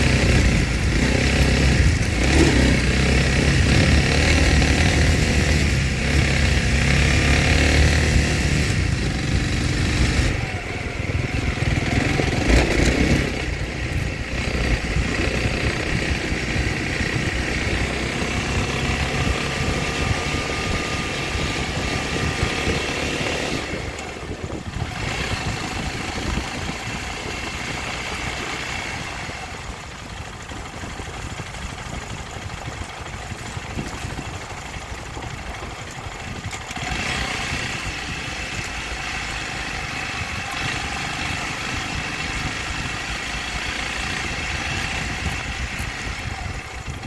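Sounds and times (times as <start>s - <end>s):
dirt bike engine: 0.0s - 47.0s
tyres on gravel road: 0.0s - 47.0s.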